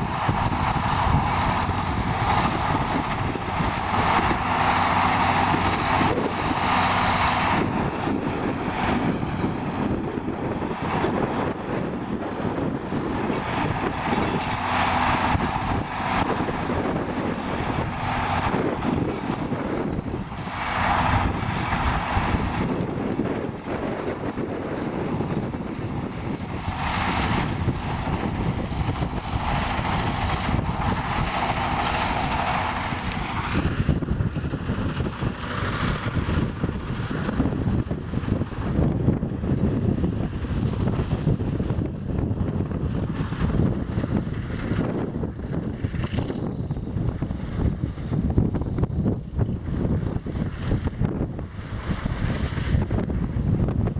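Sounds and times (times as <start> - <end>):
higher rushing noise: 0.0 - 24.1, 25.1 - 45.0
tractor diesel engine running: 0.0 - 53.4.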